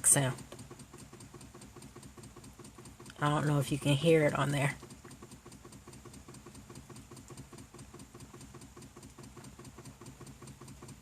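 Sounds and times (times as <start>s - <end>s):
rapid faint clicking: 0.0s - 11.0s.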